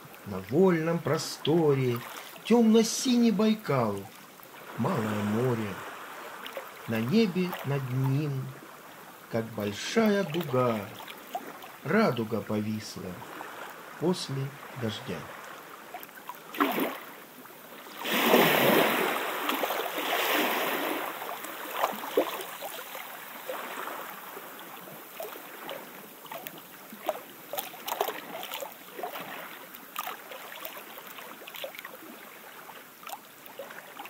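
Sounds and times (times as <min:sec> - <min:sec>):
water lapping and splashing: 0:00.0 - 0:34.0.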